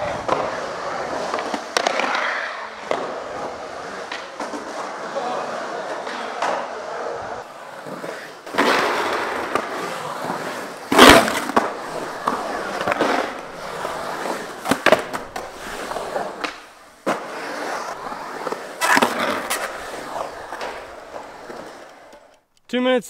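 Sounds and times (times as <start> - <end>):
skateboard trucks grinding coping: 0.0 - 22.4
skateboard clacks: 0.0 - 22.5
skateboard wheels rolling on concrete: 0.0 - 22.5.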